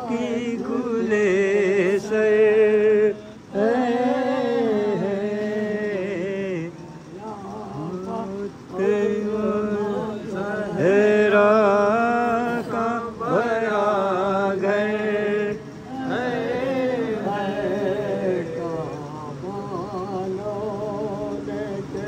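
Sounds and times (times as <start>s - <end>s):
voices chanting a lament: 0.0s - 22.0s.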